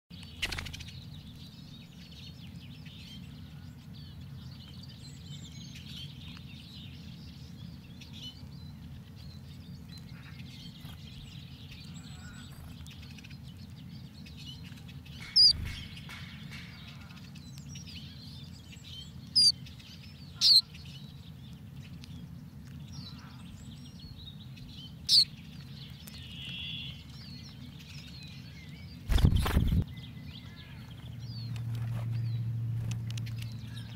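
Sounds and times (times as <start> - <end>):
songbirds calling: 0.1 - 33.9.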